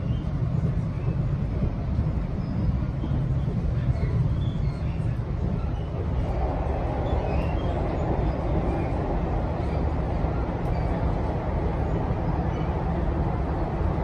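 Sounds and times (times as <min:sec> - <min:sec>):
train rumbling inside passenger car: 0:00.0 - 0:14.0.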